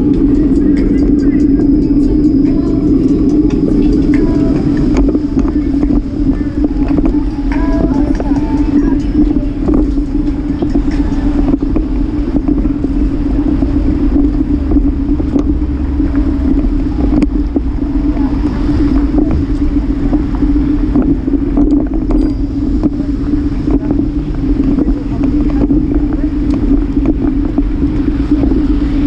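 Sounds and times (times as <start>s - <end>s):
bicycle riding rumble: 0.0s - 29.0s.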